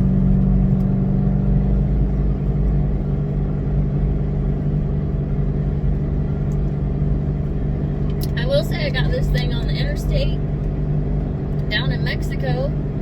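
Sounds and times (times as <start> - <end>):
car engine cruising: 0.0 - 13.0
road rumble: 0.0 - 13.0.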